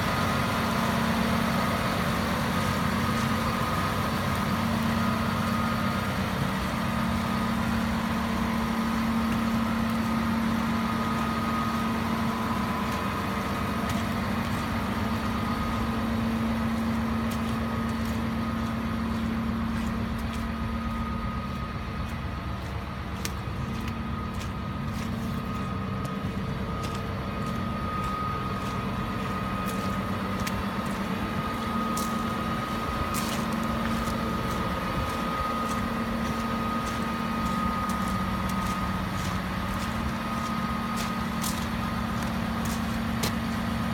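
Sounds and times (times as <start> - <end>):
diesel truck engine running: 0.0 - 43.9
steady whine: 0.0 - 43.9.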